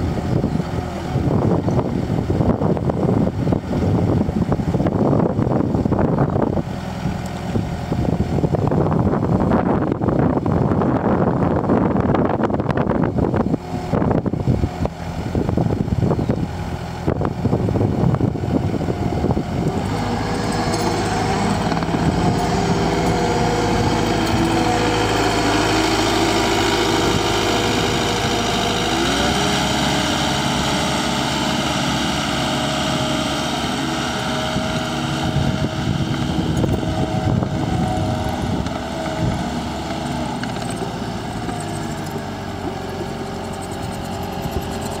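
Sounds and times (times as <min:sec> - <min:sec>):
diesel engine revving under load: 0:00.0 - 0:45.0.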